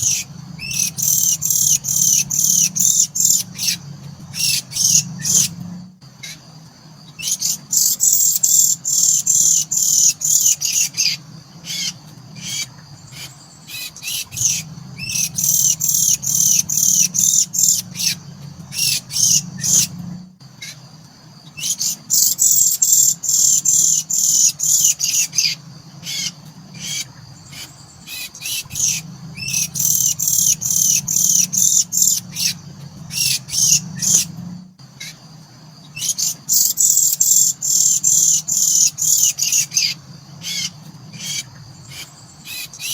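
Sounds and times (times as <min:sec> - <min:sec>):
birds chattering high-pitched: 0:00.0 - 0:42.9
low steady hum: 0:00.0 - 0:42.9.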